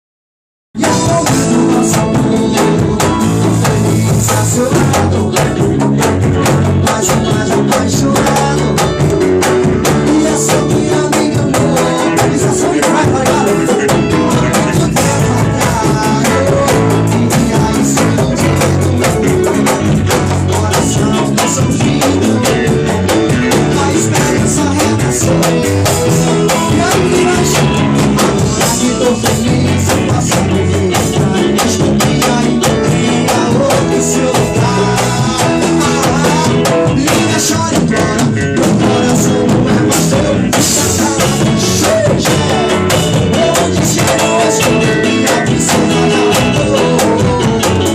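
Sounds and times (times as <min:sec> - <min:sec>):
drums beat: 0:00.8 - 0:47.9
guitar: 0:00.8 - 0:47.9.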